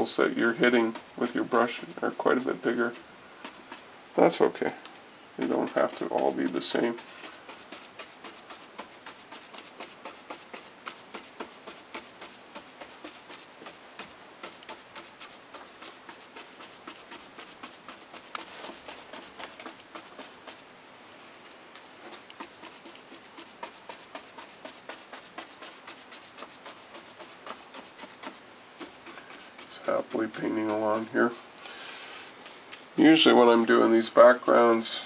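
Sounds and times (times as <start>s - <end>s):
paintbrush dabbing on board: 0.0s - 4.5s, 5.4s - 20.7s, 21.7s - 35.0s.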